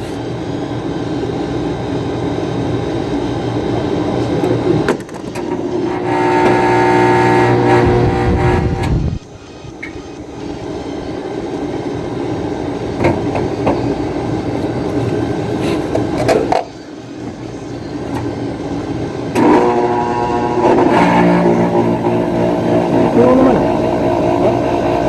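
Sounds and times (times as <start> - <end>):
compressor electrical hum: 0.0 - 25.0
rushing mechanical noise: 0.0 - 25.0.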